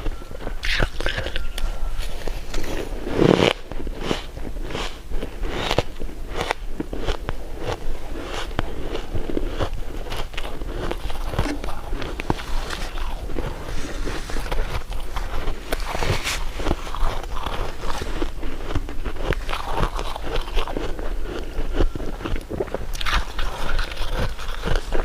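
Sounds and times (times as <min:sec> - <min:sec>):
crisp bites and crunchy chewing: 0:00.0 - 0:25.0.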